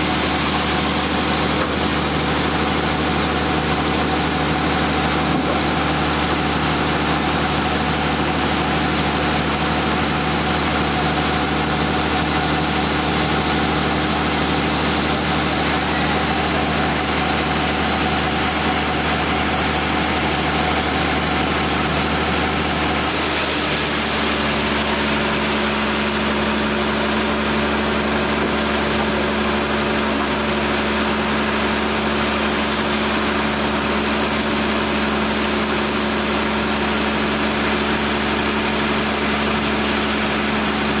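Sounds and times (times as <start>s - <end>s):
sawmill machinery hum: 0.0s - 41.0s.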